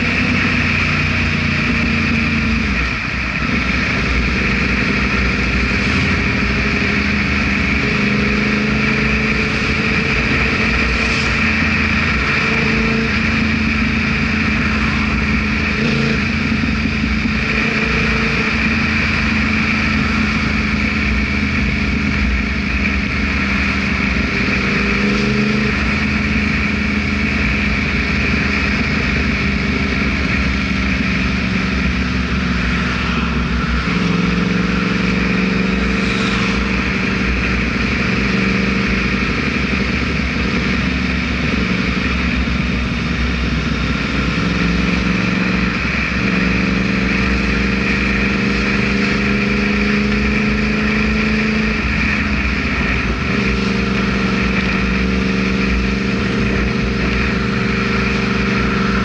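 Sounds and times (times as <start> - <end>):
constant rush of noise: 0.0 - 59.0
motorcycle engine running: 0.0 - 59.0.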